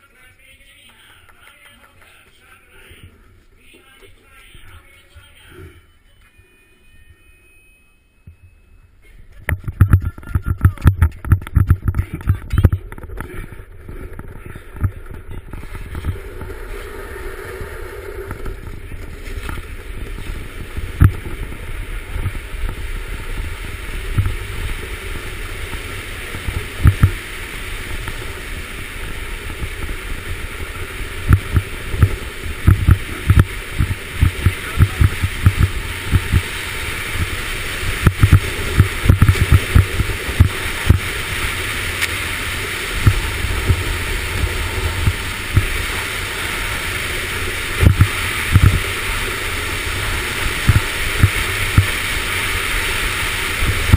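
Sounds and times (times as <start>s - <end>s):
sled runners rushing on ice: 10.1s - 53.9s.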